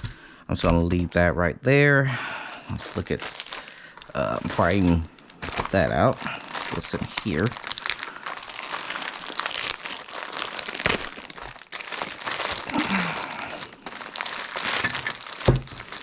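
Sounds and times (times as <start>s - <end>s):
plastic packaging crinkling: 2.5s - 16.0s.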